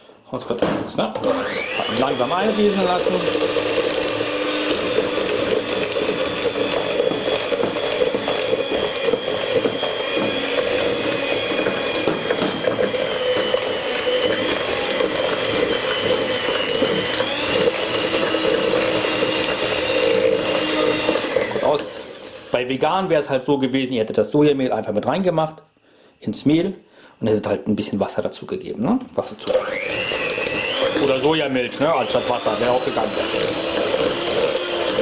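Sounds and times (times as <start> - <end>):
electric hand mixer whining: 1.0 - 23.4, 29.3 - 35.0.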